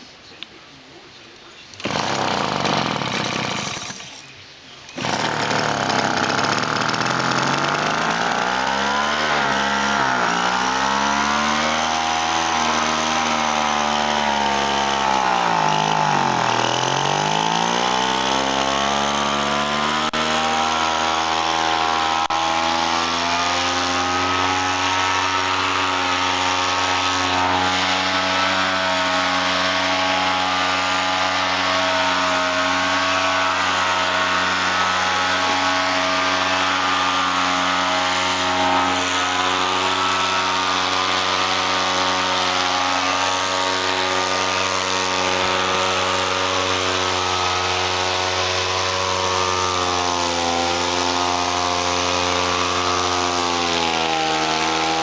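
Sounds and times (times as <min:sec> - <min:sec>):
hover mower engine running: 0:01.7 - 0:04.3, 0:04.9 - 0:55.0.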